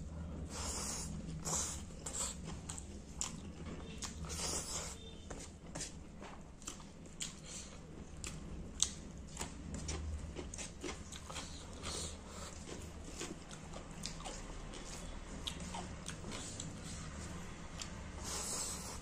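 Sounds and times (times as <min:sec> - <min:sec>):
low steady hum: 0:00.0 - 0:19.0
mouth chewing: 0:00.5 - 0:05.1, 0:06.6 - 0:19.0.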